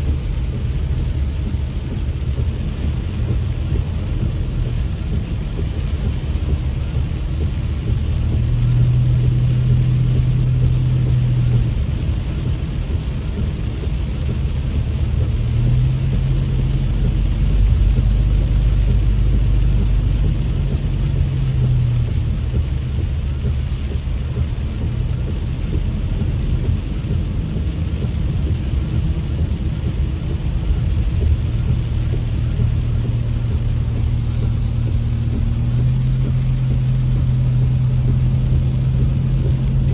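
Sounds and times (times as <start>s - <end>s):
engine and tyre rumble: 0.0s - 39.9s
tyres hissing on wet road: 0.0s - 39.9s.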